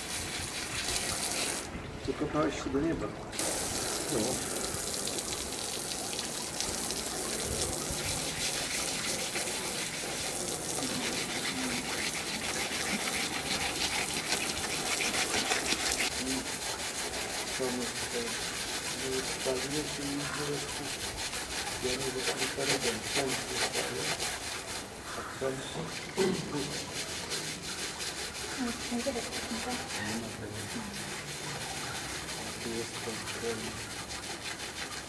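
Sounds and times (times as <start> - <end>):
hand scrubbing wet surface: 0.0 - 35.0
hose water spraying: 0.0 - 35.0.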